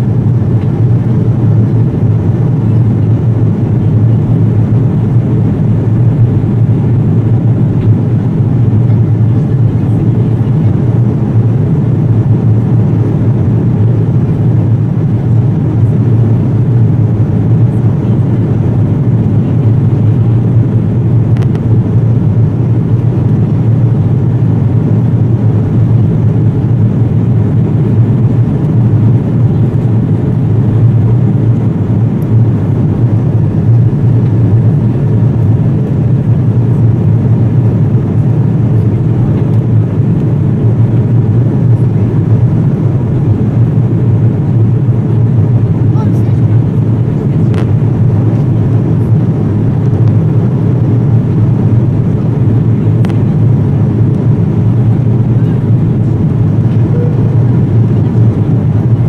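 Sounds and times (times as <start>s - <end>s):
engines rumbling: 0.0s - 59.0s.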